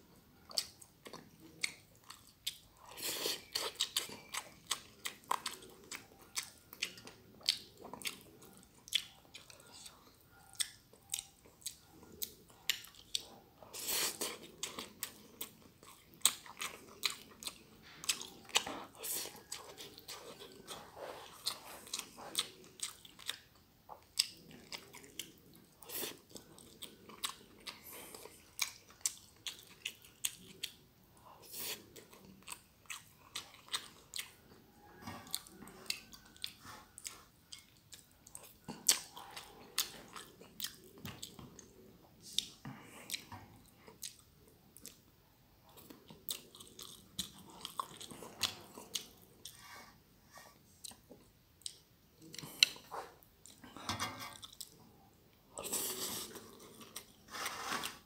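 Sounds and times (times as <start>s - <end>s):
chewing noodles with smacking: 0.4s - 49.7s, 54.4s - 58.0s.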